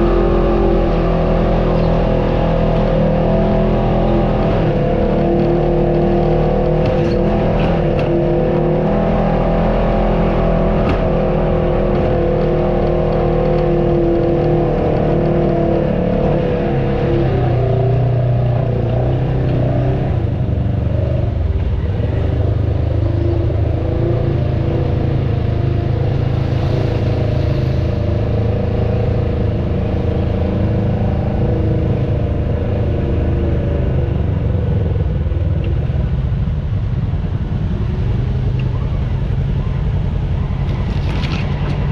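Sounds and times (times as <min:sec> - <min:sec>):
off-road vehicle engine running: 0:00.0 - 0:41.9.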